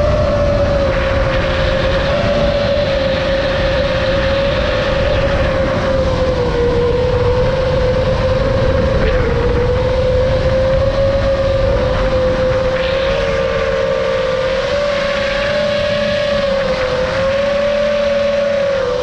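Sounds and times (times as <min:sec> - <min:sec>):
drone motors whining: 0:00.0 - 0:19.0
wind rumble on microphone: 0:00.0 - 0:19.0.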